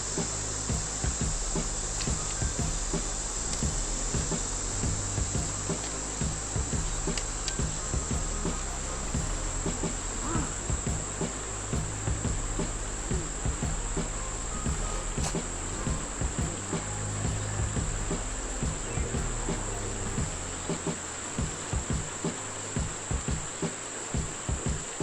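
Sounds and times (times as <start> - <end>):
low rumble: 0.0 - 21.9
insects droning: 0.0 - 25.0.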